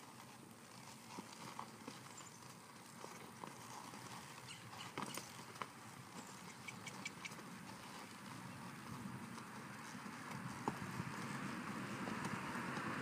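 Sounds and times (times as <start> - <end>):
horse hooves walking on sand: 0.0 - 13.0
sharp hoof clicks: 0.0 - 13.0.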